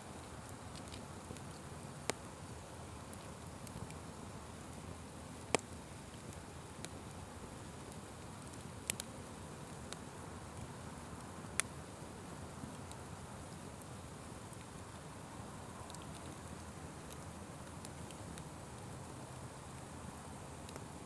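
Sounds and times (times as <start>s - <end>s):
wood fire crackling: 0.1s - 21.0s
fire popping: 0.2s - 21.0s.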